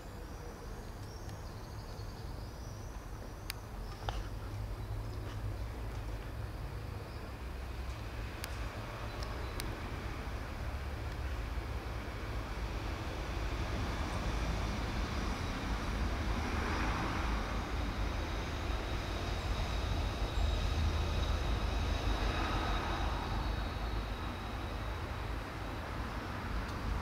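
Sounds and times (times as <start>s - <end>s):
distant road traffic rumble: 0.0s - 27.0s
vehicles passing: 3.0s - 27.0s.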